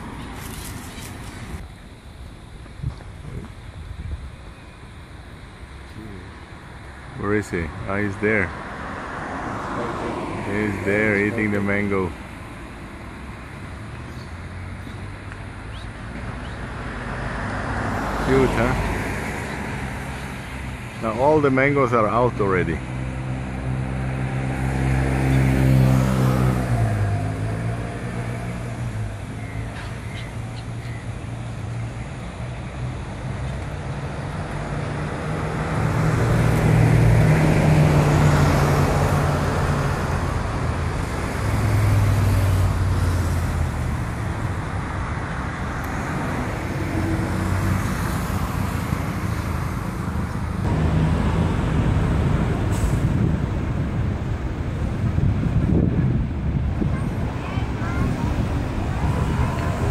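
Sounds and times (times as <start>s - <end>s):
motor vehicles passing: 0.0s - 4.3s, 4.9s - 59.9s.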